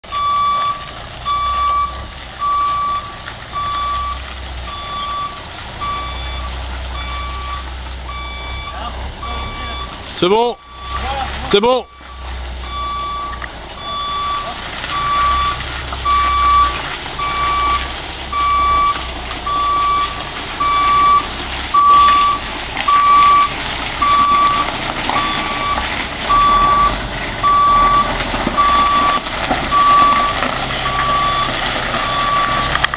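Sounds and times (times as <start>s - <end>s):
truck engine rumble: 0.0s - 32.9s
truck reversing alarm beeping: 0.0s - 32.9s.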